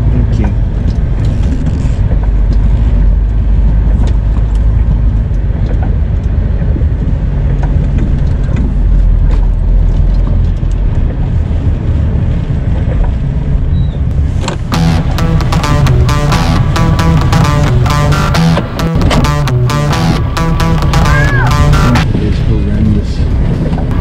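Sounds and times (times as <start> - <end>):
diesel engine rumbling: 0.0 - 24.0.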